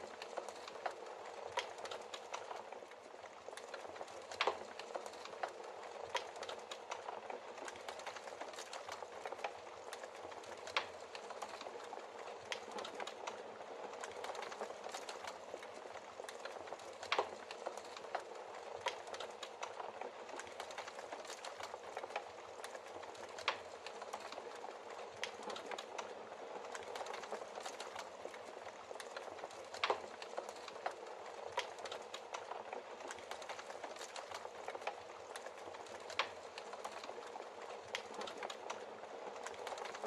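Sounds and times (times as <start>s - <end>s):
fire crackling and popping: 0.0s - 40.0s.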